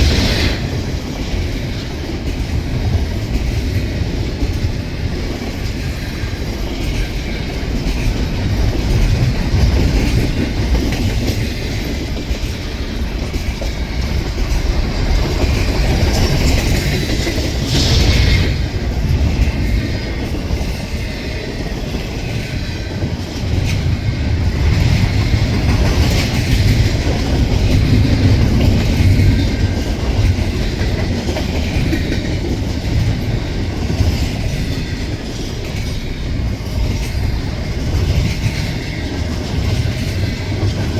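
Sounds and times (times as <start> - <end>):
clickety-clack over rail joints: 0.0 - 40.9
train wheels rumbling on rail: 0.0 - 40.9.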